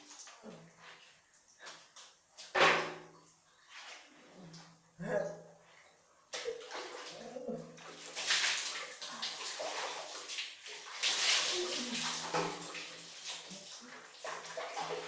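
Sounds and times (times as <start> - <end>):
water splashing on tiled floor: 0.0 - 4.6, 6.3 - 15.0.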